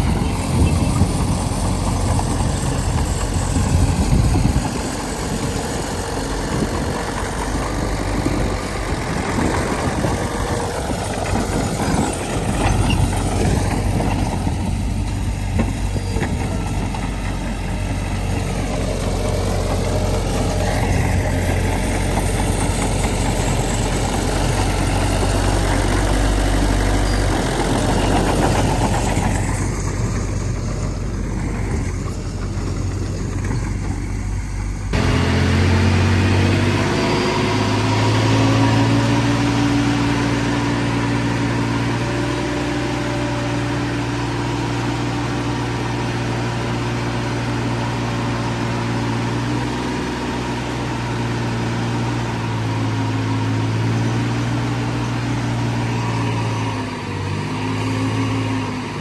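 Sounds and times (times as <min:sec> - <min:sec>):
heavy machine engines running: 0:00.0 - 0:59.0.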